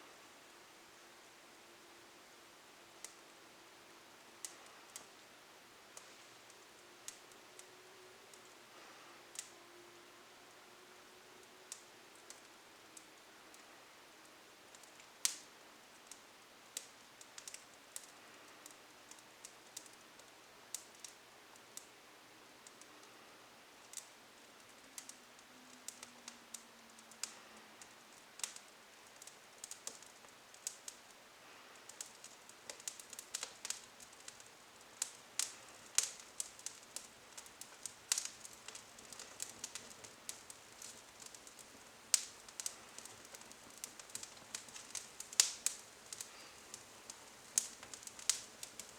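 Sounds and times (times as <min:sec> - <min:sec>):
faint hiss: 0:00.0 - 0:48.9
twig fire crackling: 0:00.0 - 0:48.9.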